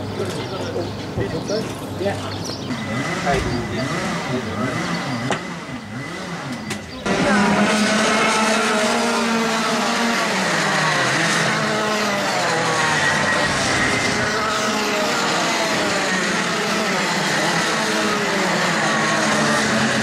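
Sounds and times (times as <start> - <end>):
go-kart engines revving: 0.0 - 20.0.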